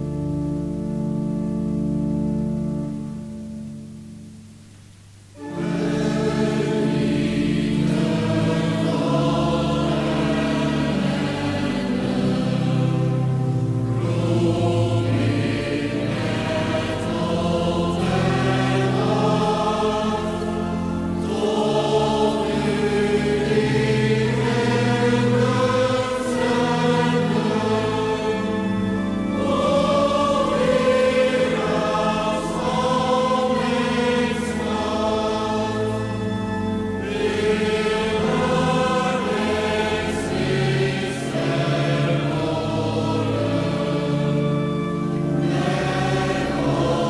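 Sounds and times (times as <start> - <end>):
sustained low accompaniment: 0.0 - 47.0
voices singing a slow psalm: 5.4 - 47.0.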